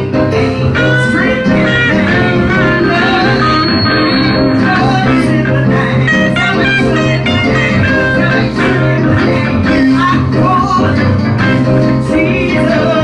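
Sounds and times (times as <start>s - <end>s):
bluesy electric guitar lines: 0.0s - 13.0s
steady bass: 0.0s - 13.0s.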